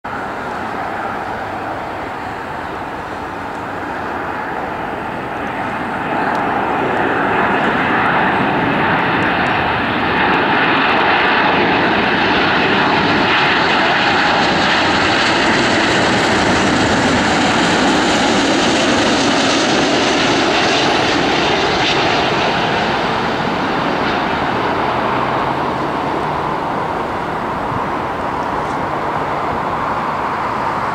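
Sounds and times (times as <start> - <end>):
jet airliner roar and whine: 0.0 - 30.9.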